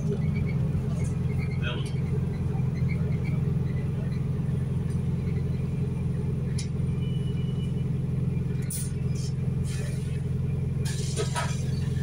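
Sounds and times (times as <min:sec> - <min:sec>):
bus engine drone from inside: 0:00.0 - 0:12.0.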